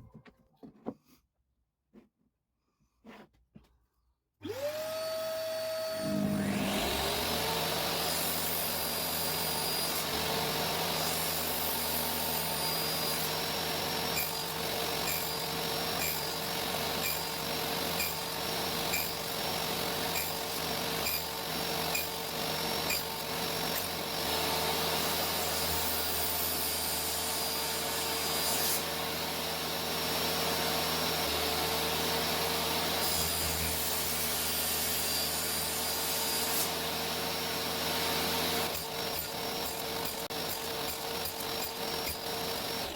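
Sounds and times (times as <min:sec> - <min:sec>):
table saw cutting wood: 0:04.4 - 0:42.9.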